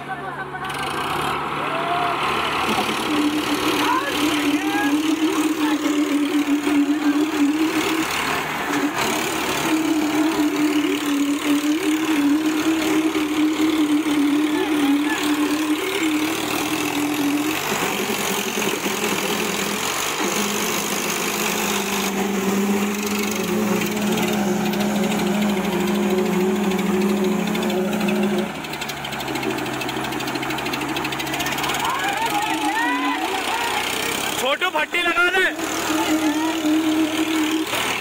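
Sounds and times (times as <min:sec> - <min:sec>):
tractor diesel engines running: 0:00.0 - 0:38.0.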